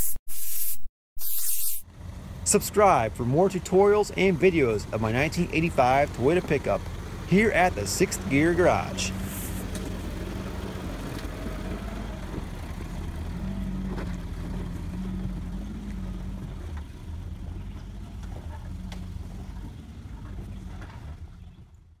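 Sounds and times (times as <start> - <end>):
truck engine running at low revs: 1.8 - 22.0.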